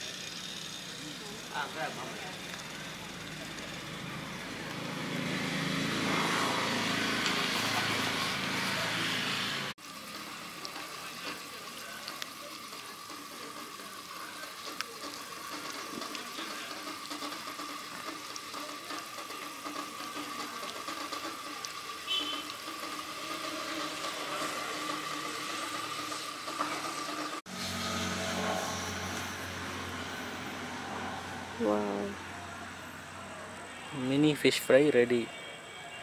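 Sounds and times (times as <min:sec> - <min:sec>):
fish deep-frying in oil: 0:00.0 - 0:33.2.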